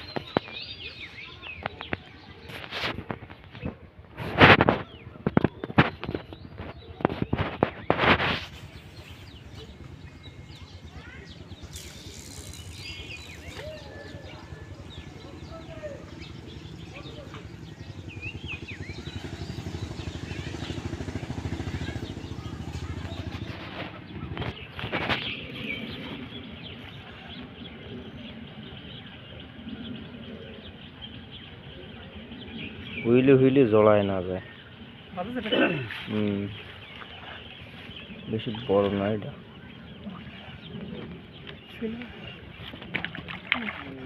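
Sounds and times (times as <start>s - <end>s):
outdoor background noise: 0.0s - 44.0s
birds chirping faintly: 4.6s - 44.0s.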